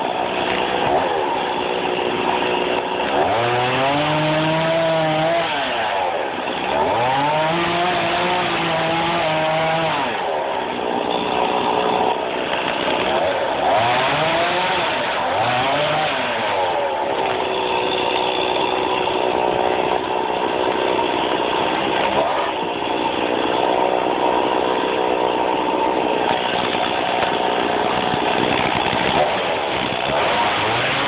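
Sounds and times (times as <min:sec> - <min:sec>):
chainsaw cutting logs: 0:00.0 - 0:31.0.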